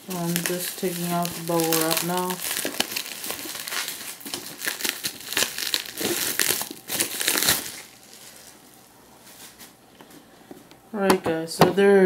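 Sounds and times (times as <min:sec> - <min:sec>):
bubble wrap crinkling: 0:00.0 - 0:09.8.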